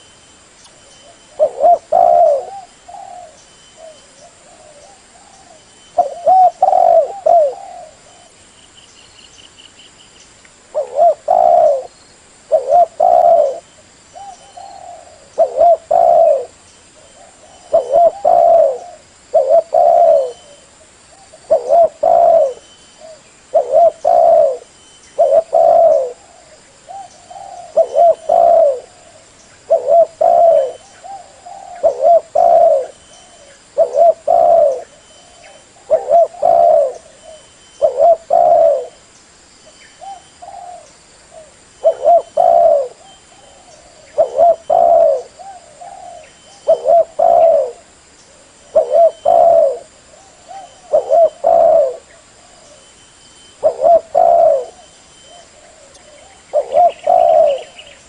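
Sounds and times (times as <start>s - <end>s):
dove cooing: 1.0s - 8.4s, 10.7s - 11.9s, 12.5s - 39.0s, 40.0s - 58.0s.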